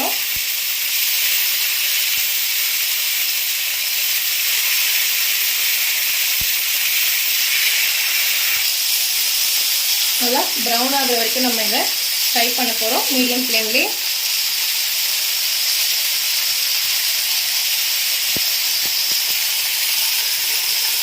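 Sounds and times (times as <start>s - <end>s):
chicken sizzling in frying pan: 0.0s - 21.0s.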